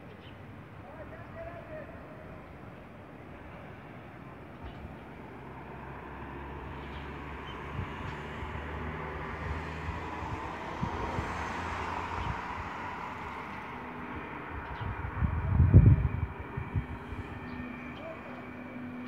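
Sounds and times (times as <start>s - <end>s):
distant engine drone: 0.4s - 19.0s.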